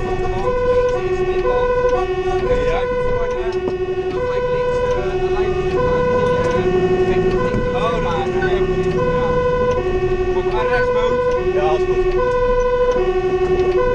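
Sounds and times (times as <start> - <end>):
truck engine and road rumble: 0.0 - 13.9
two-tone siren: 0.0 - 13.9.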